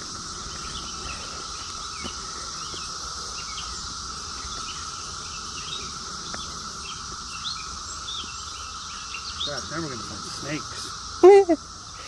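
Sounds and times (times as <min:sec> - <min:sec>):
cicadas chorus drone: 0:00.0 - 0:12.0.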